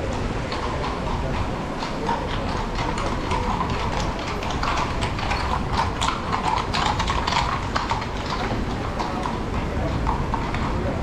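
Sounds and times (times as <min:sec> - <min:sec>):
city street noise: 0:00.0 - 0:11.0
horse hooves clip-clopping: 0:00.0 - 0:11.0.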